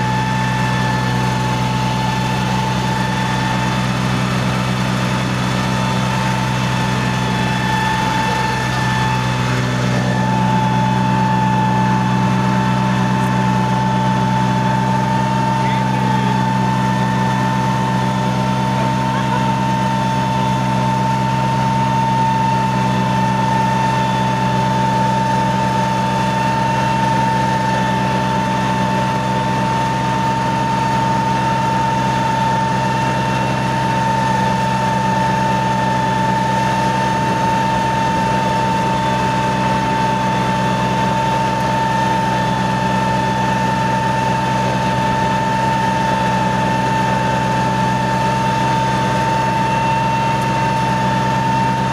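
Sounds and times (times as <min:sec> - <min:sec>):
constant high whine: 0:00.0 - 0:51.9
tractor engine running under load: 0:00.0 - 0:51.9.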